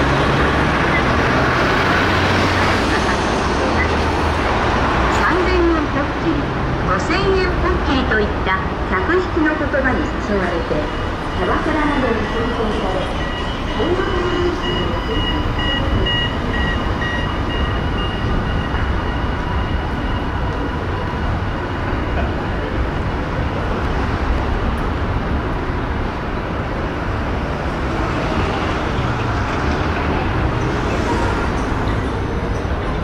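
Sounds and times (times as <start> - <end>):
city traffic noise: 0.0 - 33.0.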